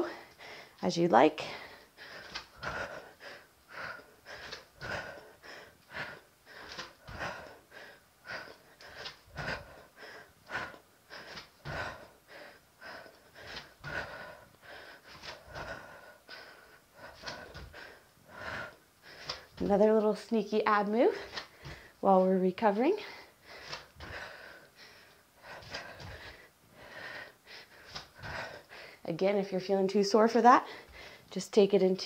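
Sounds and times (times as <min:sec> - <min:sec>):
woman breathing hard: 0:00.0 - 0:00.8, 0:01.4 - 0:19.6, 0:21.1 - 0:22.0, 0:23.0 - 0:29.0, 0:30.7 - 0:31.3.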